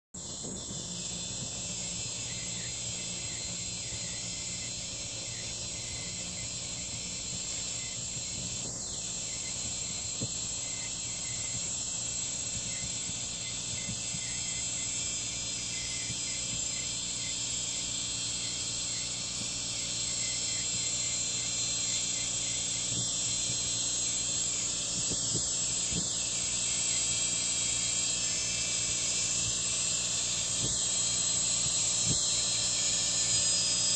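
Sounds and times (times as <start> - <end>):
mower cutting head hiss: 0.2 - 33.9.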